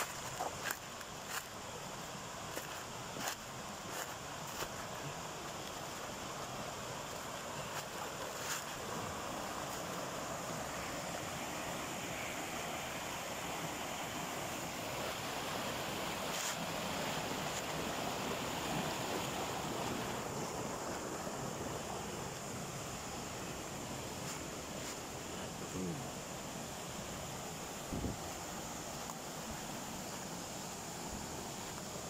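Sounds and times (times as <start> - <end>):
waterfall and stream rushing: 0.0 - 32.0.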